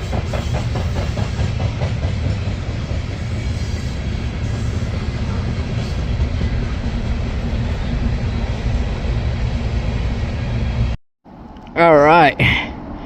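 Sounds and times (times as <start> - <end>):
freight train rumbling past: 0.0 - 11.5.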